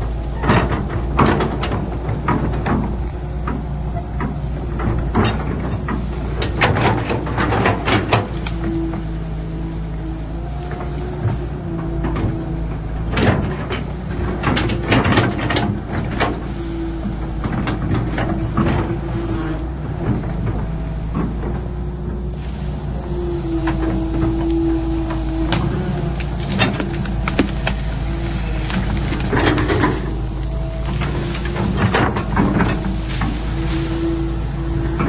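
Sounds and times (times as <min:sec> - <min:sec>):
diesel engine rumble: 0:00.0 - 0:35.0
hydraulic whine: 0:00.0 - 0:35.0
metallic clanks and knocks: 0:00.0 - 0:35.0.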